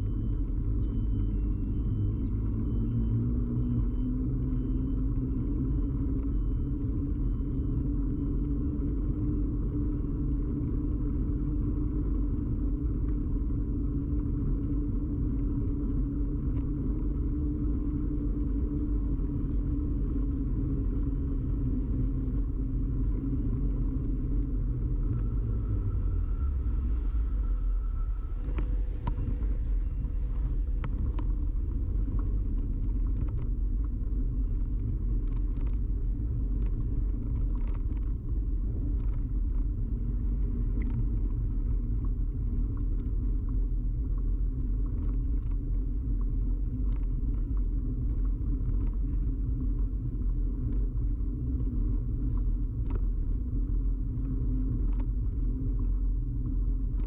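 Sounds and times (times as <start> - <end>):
bicycle ride rumble: 0.0 - 57.0.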